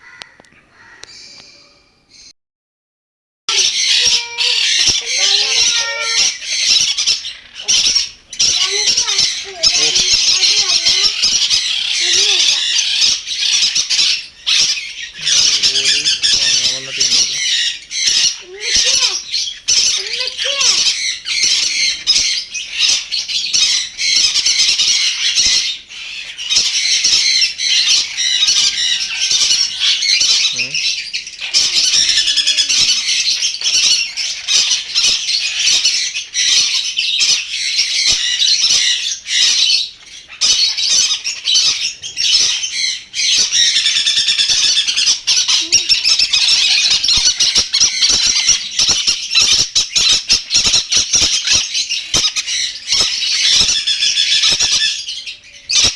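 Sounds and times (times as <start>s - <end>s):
parrots squawking and chattering: 0.0s - 2.3s, 3.5s - 55.9s.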